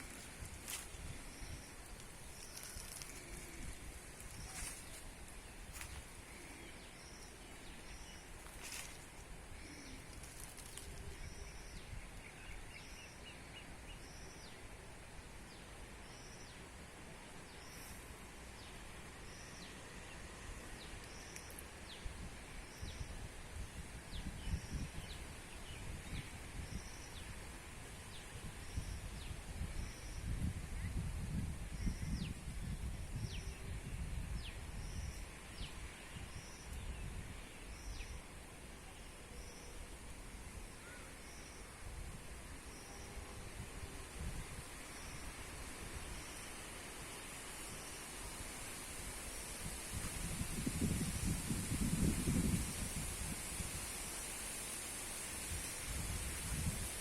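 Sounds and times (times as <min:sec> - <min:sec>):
steady outdoor hiss: 0:00.0 - 0:57.0.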